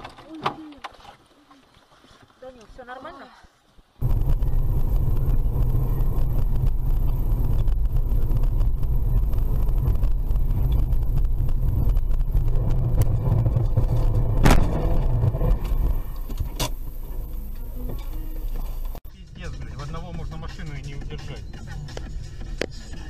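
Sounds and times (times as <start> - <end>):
car engine and road noise: 4.0 - 23.0.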